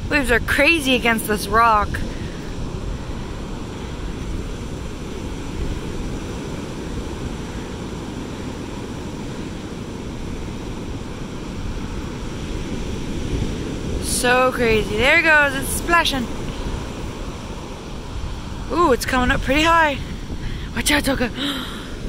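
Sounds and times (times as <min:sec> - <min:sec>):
ocean surf breaking on rocks: 0:00.0 - 0:22.0.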